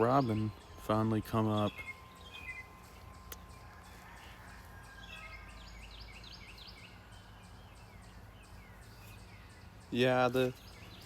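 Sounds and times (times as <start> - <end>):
distant songbirds singing: 0.0 - 11.0.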